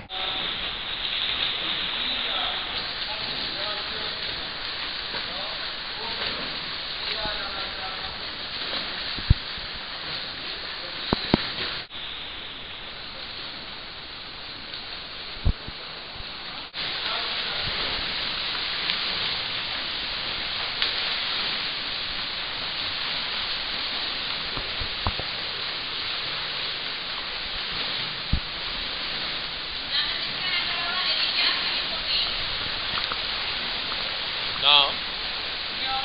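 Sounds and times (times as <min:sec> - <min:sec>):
water splashing and churning: 0:00.0 - 0:36.0.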